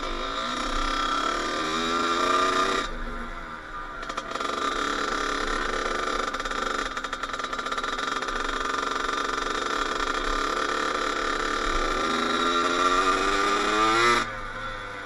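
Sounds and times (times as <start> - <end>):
dirt bike engine running: 0.0 - 3.2, 3.8 - 15.0.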